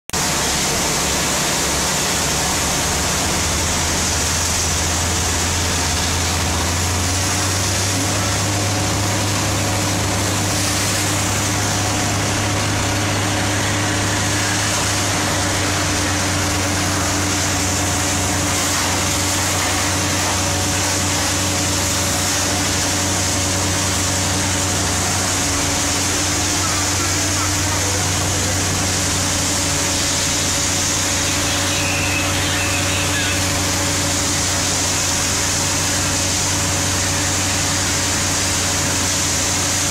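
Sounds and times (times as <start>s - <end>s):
diesel engines running: 0.1s - 39.9s
water hissing from hoses: 0.2s - 39.9s.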